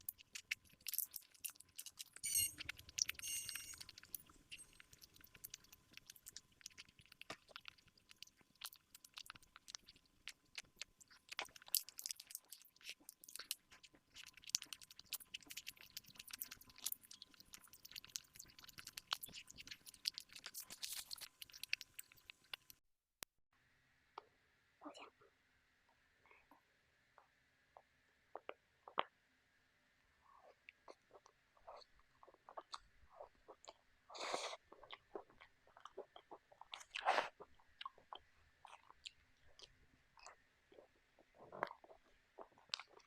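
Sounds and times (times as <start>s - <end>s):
chewing cake: 0.0s - 22.8s, 27.2s - 29.2s, 30.1s - 43.0s.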